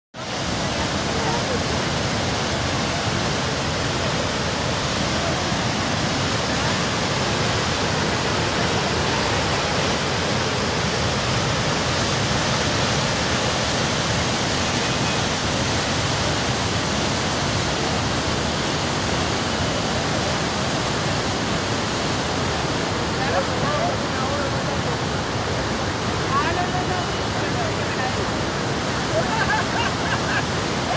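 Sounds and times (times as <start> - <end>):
flooded river rushing: 0.2 - 30.9.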